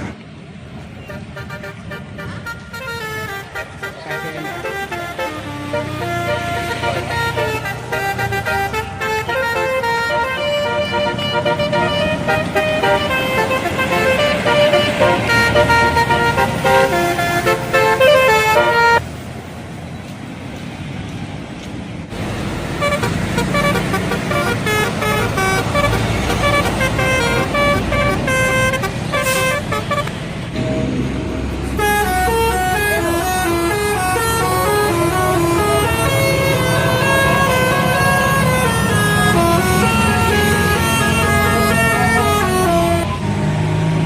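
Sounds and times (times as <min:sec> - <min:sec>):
air horn playing tune: 0:01.1 - 0:19.0, 0:22.8 - 0:30.9, 0:31.6 - 0:43.1.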